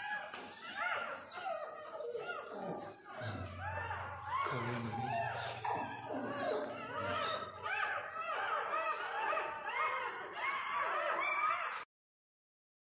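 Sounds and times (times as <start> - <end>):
puppies whining and crying: 0.0 - 11.9.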